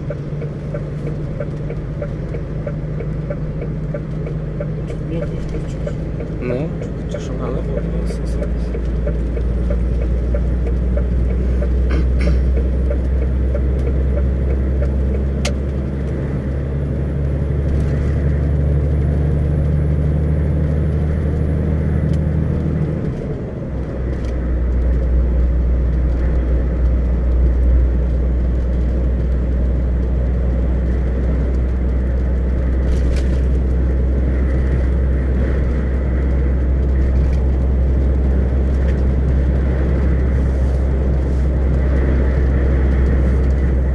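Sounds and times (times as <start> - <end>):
engine drone: 0.0 - 43.9
tyre and road noise: 0.0 - 43.9.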